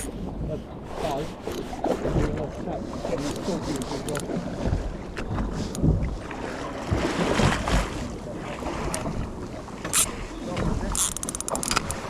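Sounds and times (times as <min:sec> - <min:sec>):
water moving around boat: 0:00.0 - 0:12.0
wind rumbling on microphone: 0:00.0 - 0:12.0.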